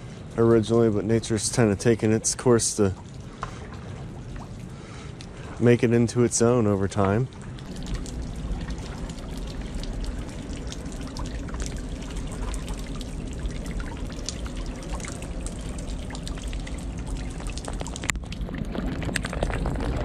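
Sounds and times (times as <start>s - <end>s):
water dripping into river: 0.0s - 20.0s.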